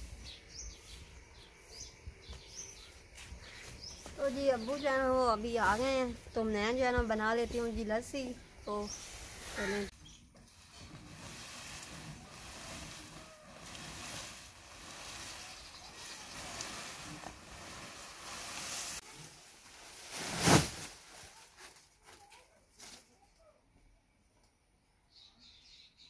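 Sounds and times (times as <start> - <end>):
fodder stalks and leaves rustling: 2.3 - 23.3.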